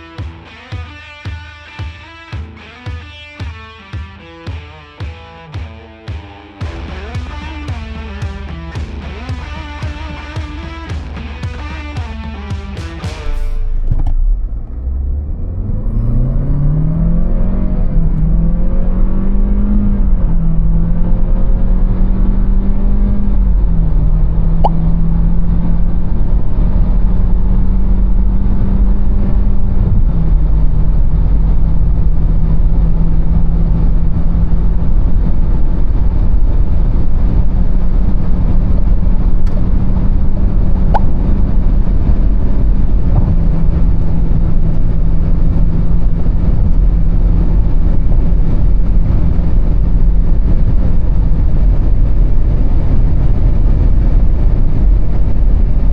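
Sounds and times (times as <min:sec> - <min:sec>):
car engine droning: 0:00.0 - 0:55.9
road and wind rumble: 0:06.6 - 0:55.9.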